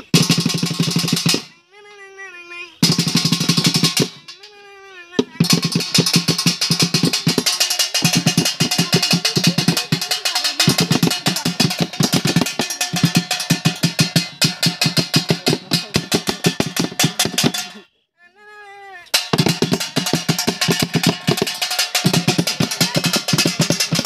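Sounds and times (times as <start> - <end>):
fast dense drumming: 0.0 - 1.5, 2.8 - 4.5, 5.2 - 17.8, 19.1 - 24.0.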